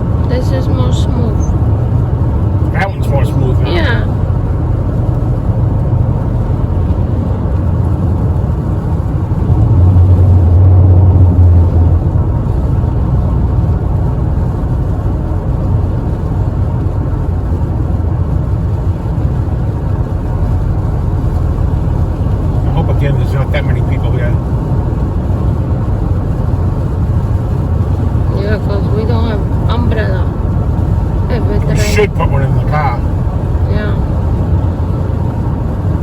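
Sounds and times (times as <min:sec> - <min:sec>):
road and engine rumble in car: 0:00.0 - 0:36.0.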